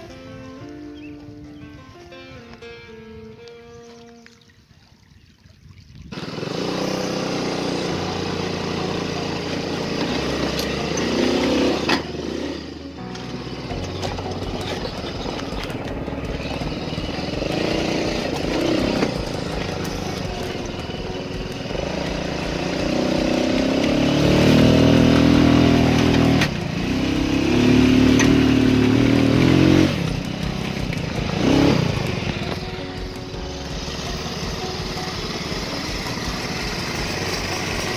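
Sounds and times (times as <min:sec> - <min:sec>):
go-kart engine revving: 0:06.1 - 0:37.9.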